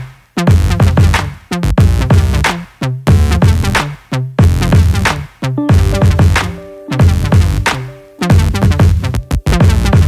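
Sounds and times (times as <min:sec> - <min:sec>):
electronic music with deep bass: 0:00.5 - 0:10.0.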